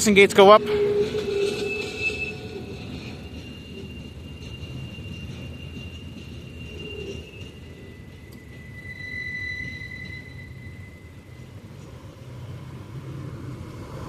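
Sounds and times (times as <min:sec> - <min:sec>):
freight train rumble: 0:00.0 - 0:14.0
road traffic: 0:00.0 - 0:14.0.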